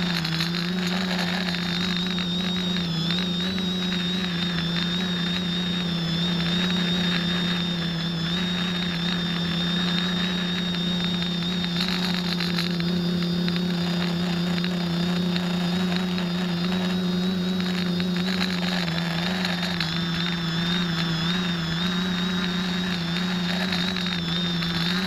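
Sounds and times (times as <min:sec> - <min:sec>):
quadcopter motors buzzing: 0:00.0 - 0:25.0.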